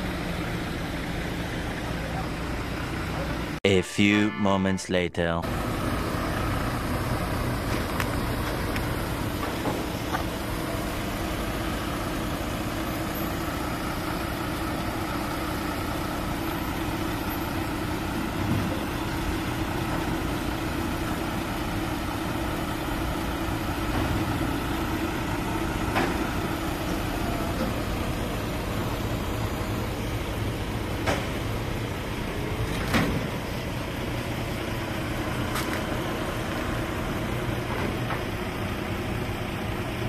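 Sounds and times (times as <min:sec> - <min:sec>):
heavy diesel engine running: 0:00.0 - 0:03.6, 0:05.4 - 0:40.0.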